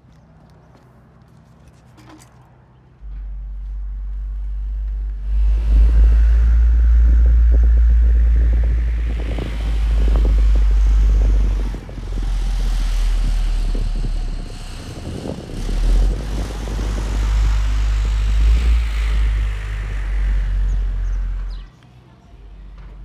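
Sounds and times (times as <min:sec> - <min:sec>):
deep bass drone from subwoofers: 0:03.0 - 0:21.8.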